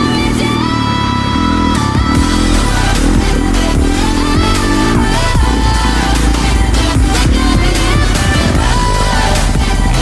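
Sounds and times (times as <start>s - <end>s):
electronic music with synth: 0.0s - 10.0s.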